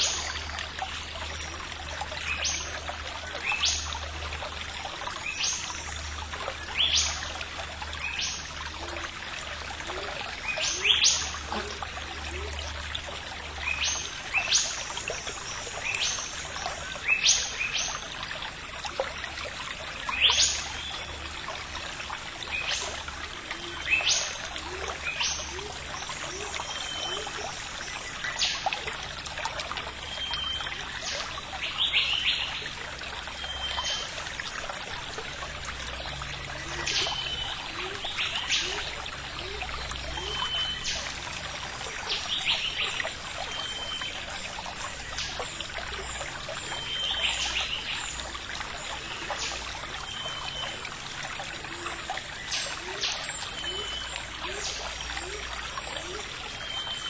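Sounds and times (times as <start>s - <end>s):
steady hiss like running water: 0.0s - 57.0s.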